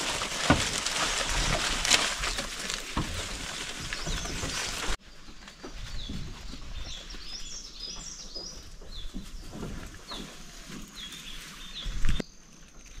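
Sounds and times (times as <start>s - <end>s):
small birds chirping: 2.2s - 13.0s.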